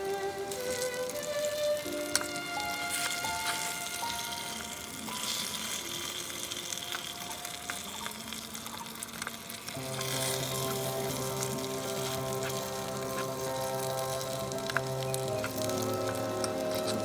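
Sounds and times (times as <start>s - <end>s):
instrumental music with held notes: 0.0s - 17.0s
steady hiss with crackles: 0.0s - 17.0s.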